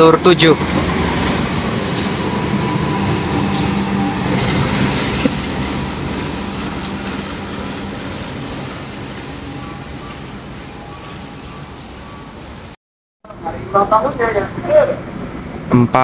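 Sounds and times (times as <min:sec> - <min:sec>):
diesel locomotive engine running: 0:00.0 - 0:15.6.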